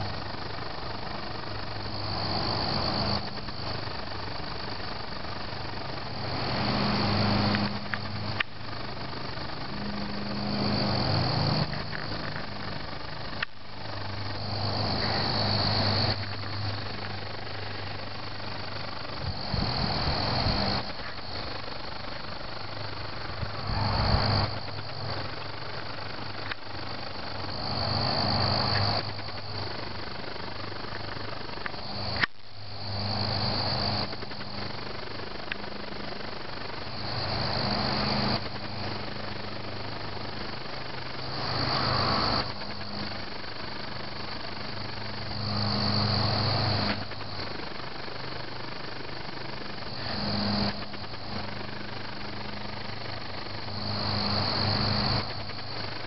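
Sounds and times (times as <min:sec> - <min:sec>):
crickets chirping: 0:00.0 - 0:56.0
low hum: 0:00.0 - 0:56.0.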